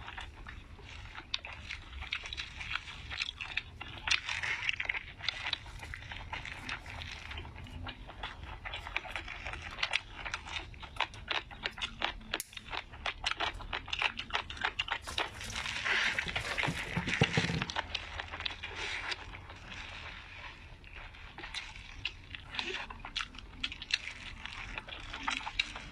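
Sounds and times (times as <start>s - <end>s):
person chewing crunchy food: 0.0s - 25.9s.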